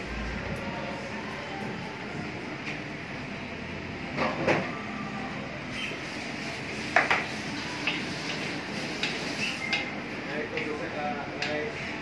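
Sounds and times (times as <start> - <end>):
rushing kitchen noise: 0.0 - 12.0.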